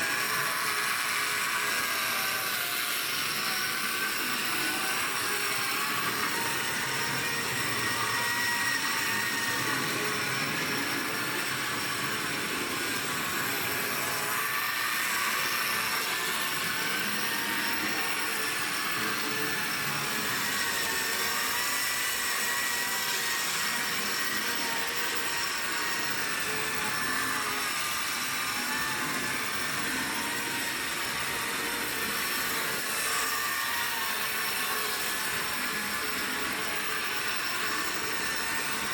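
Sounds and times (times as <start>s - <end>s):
small electric motor whirring: 0.0s - 38.9s.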